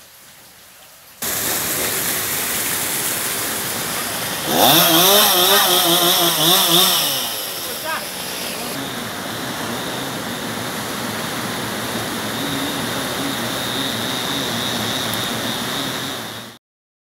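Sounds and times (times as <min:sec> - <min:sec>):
heavy surf breaking on beach: 0:01.2 - 0:16.6.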